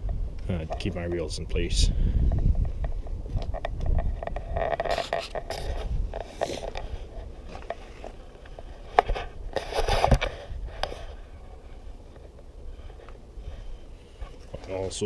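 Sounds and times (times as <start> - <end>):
hands rustling and scraping gear: 2.3 - 15.0.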